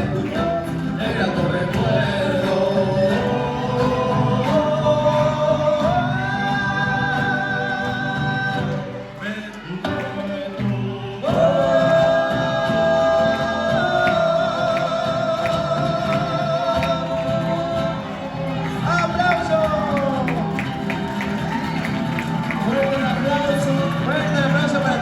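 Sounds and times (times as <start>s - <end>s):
folk band accompaniment: 0.0s - 25.0s.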